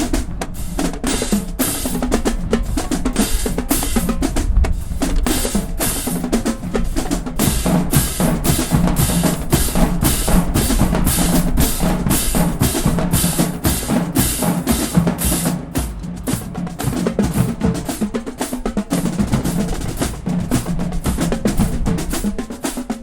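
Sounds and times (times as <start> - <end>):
marching drumline cadence: 0.0 - 23.0.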